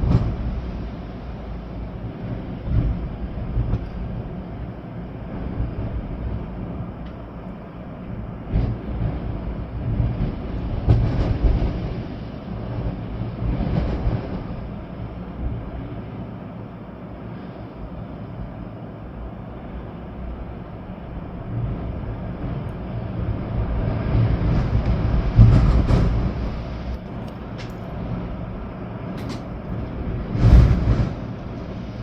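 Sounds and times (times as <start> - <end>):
rain: 0.0 - 32.0
storm wind gusting: 0.0 - 32.0.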